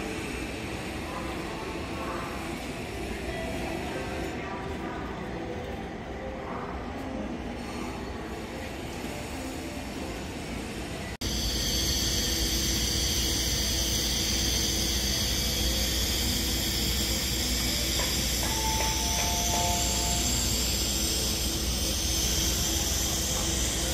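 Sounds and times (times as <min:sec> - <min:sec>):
outdoor street noise: 0:00.0 - 0:23.9
station concourse ambience: 0:00.0 - 0:23.9.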